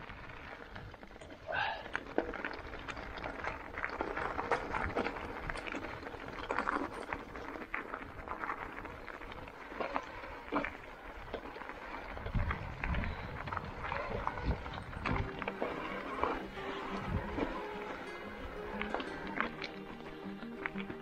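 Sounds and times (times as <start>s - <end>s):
bike rattling over rocks: 0.0s - 21.0s
bike tyres crunching over stones: 0.0s - 21.0s.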